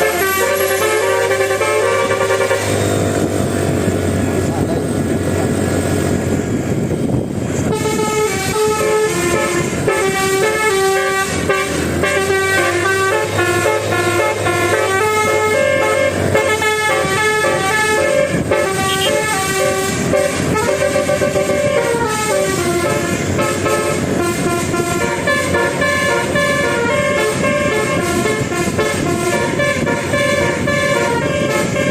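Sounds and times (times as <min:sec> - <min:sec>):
bus horn playing a melody: 0:00.0 - 0:03.9, 0:07.6 - 0:31.9
engine rumble: 0:00.0 - 0:31.9.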